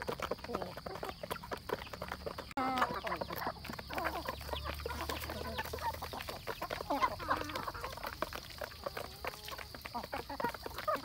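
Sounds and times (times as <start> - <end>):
beaks pecking at feed pans: 0.0 - 11.0
chickens clucking: 0.0 - 11.0.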